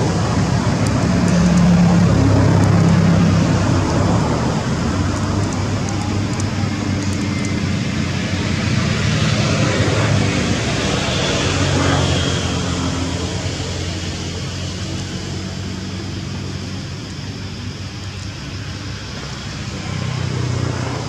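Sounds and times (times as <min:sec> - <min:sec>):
low engine hum: 0:00.0 - 0:21.0
noisy rush: 0:00.0 - 0:21.0.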